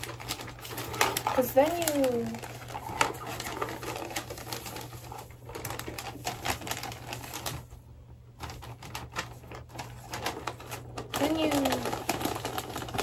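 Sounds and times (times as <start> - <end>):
wrapping paper crinkling: 0.0 - 7.8, 8.4 - 13.0.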